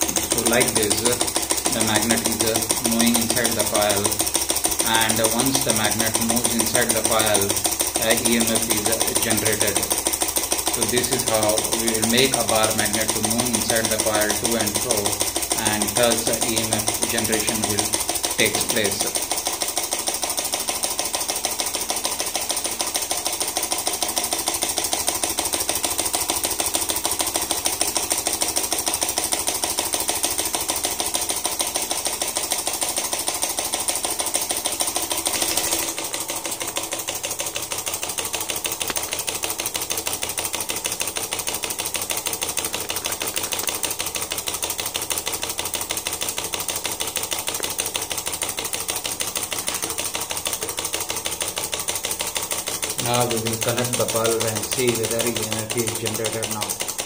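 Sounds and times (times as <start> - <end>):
clicking rattle of mechanism: 0.0 - 57.0
small motor running: 0.0 - 57.0.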